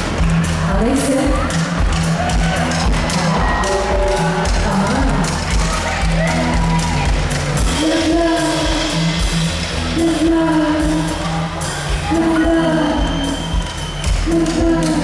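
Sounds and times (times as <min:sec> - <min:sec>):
pop-rock music: 0:00.0 - 0:15.0.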